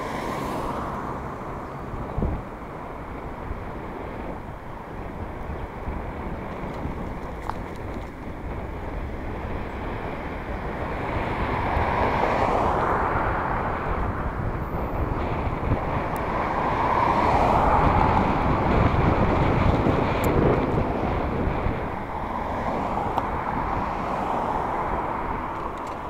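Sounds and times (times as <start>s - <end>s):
road traffic noise: 0.0s - 26.0s
wind rushing over microphone: 0.0s - 26.0s.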